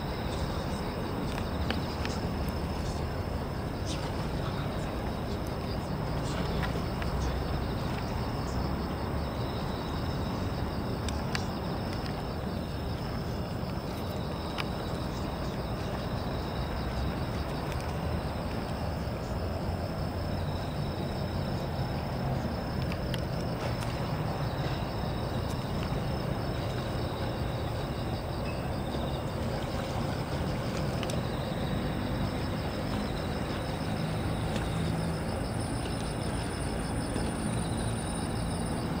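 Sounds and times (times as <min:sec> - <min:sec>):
insects trilling: 0:00.0 - 0:39.0
low engine rumble: 0:00.0 - 0:39.0.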